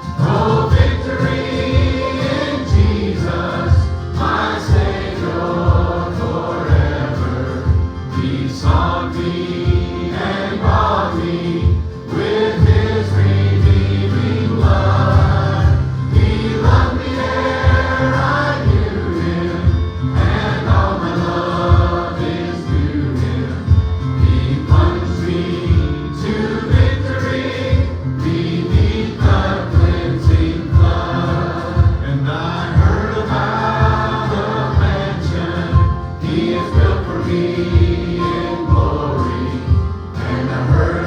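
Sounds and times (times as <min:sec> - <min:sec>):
accompaniment with steady beat: 0:00.0 - 0:41.0
youth choir singing gospel: 0:00.0 - 0:41.0.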